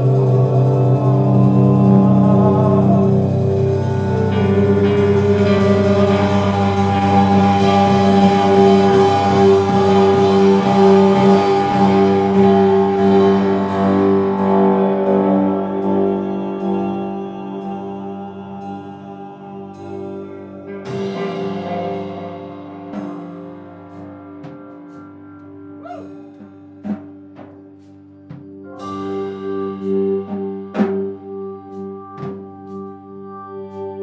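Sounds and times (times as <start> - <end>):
drums: 0.0 - 34.0
electric guitars sustained notes: 0.0 - 34.0.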